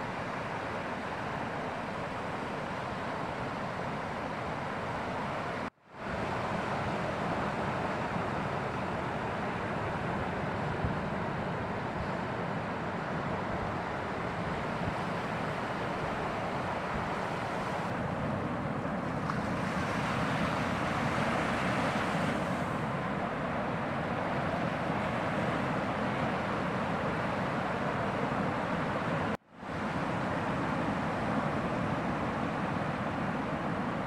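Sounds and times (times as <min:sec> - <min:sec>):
waves breaking: 0:00.0 - 0:34.0.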